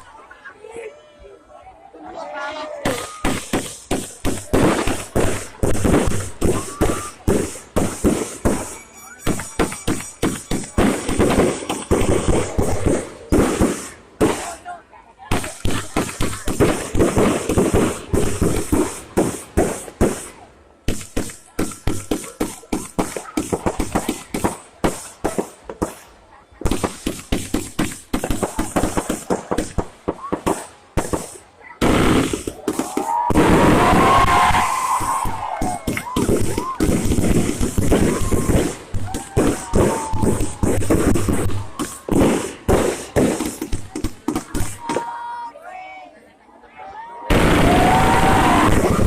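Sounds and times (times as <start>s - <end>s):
firecrackers banging: 2.8s - 14.7s, 15.3s - 45.1s, 47.3s - 49.0s.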